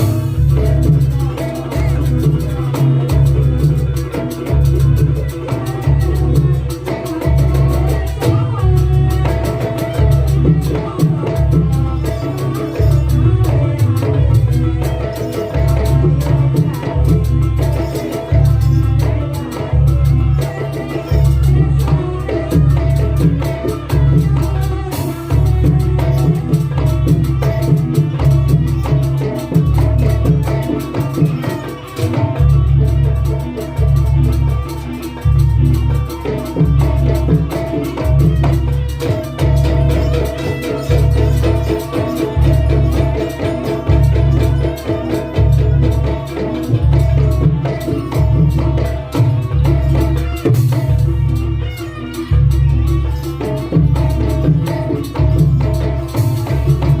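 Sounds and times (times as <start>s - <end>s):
drumming: 0.0s - 57.0s
live percussion music: 0.0s - 57.0s.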